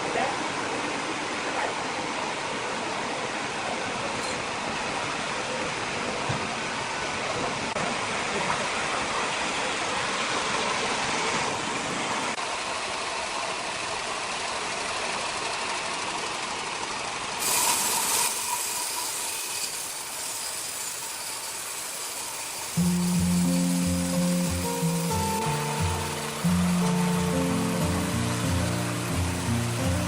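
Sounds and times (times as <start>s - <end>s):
sawmill machinery running: 0.0s - 30.0s.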